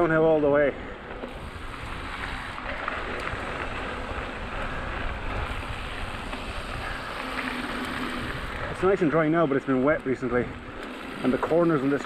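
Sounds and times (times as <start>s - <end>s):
bike tyres rolling over gravel: 0.0s - 12.0s
wind buffeting microphone: 1.2s - 12.0s.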